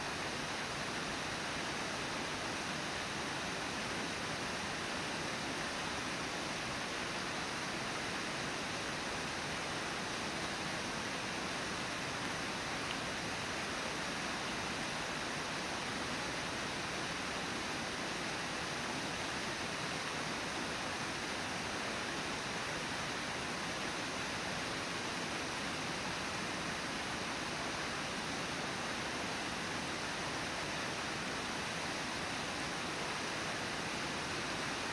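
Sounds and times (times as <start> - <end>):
river water rushing: 0.0 - 34.9.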